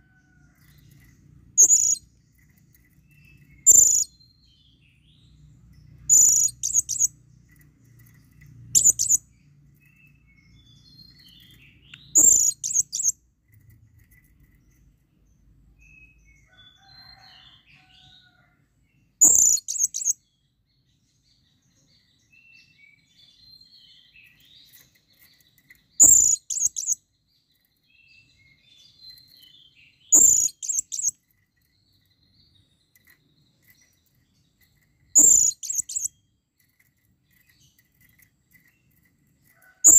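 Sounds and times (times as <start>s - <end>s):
faint bird chirps: 0.0s - 18.4s, 19.2s - 39.9s.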